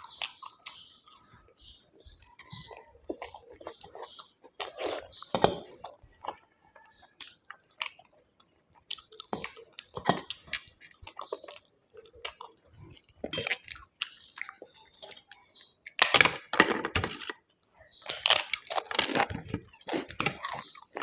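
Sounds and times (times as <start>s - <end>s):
person chewing food: 0.0s - 16.5s, 17.1s - 21.0s.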